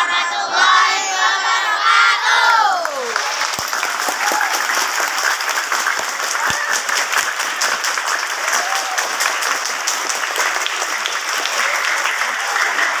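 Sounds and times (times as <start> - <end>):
crowd clapping: 2.6 - 13.0.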